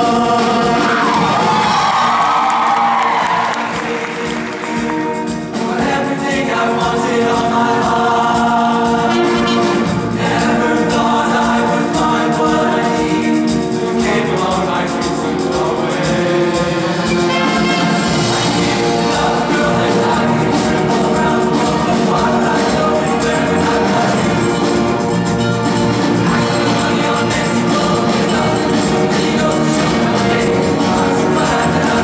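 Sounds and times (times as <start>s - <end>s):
men's choir singing: 0.0s - 32.0s.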